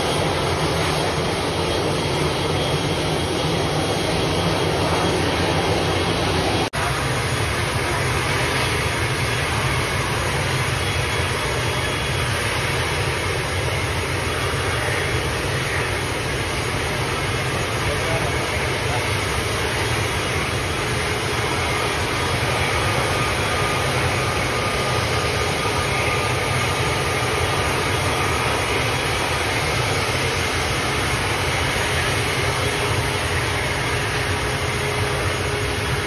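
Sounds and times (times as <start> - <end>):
turboprop engines droning: 0.0 - 36.0.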